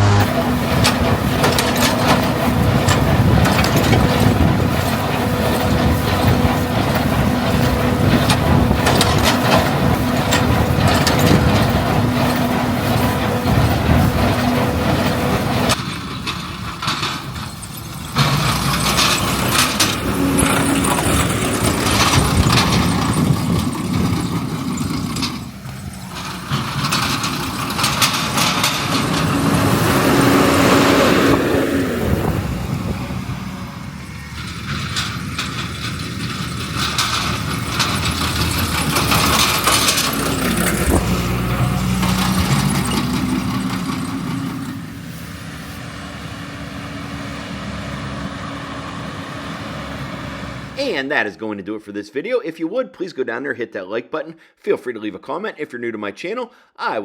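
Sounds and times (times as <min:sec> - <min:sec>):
rotary mower rattling clatter: 0:00.0 - 0:45.8
tractor diesel engine hum: 0:00.0 - 0:51.0.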